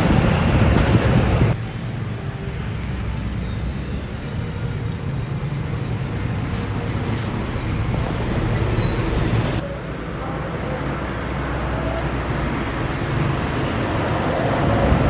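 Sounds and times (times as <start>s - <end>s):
truck passing by: 0.0s - 15.0s.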